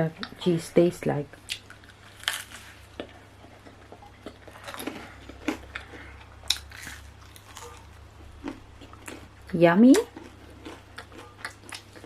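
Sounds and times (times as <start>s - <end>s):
person chewing crisp bread: 1.5s - 12.0s.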